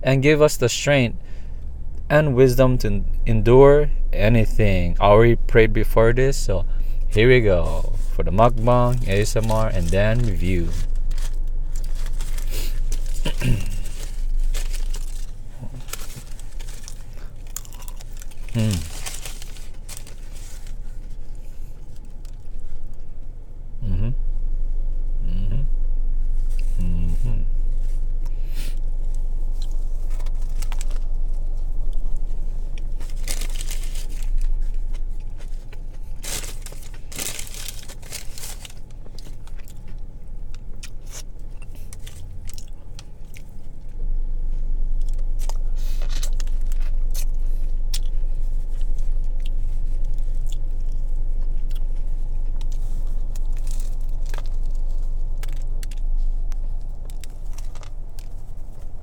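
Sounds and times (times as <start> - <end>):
steady low hum: 0.0 - 59.0
sandwich crunching and chewing: 5.9 - 23.0, 28.1 - 44.0, 44.6 - 59.0.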